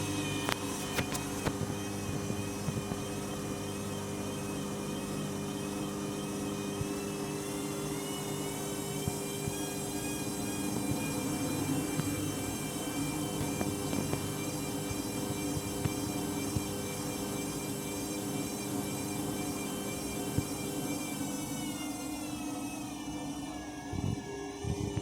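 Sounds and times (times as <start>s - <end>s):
faint high whine: 0.0s - 25.0s
washing machine spinning: 0.0s - 25.0s.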